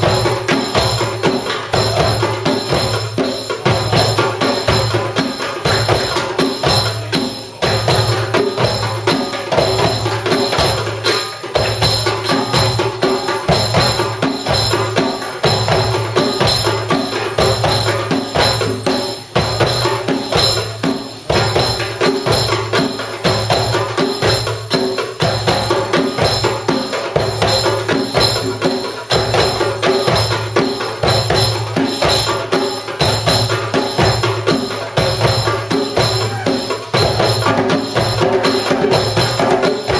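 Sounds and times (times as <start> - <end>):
hand drums playing rhythm: 0.0 - 39.9.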